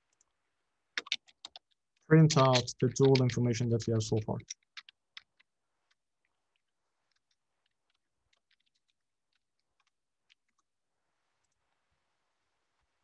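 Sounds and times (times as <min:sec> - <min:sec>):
faint keyboard typing: 0:00.0 - 0:12.0.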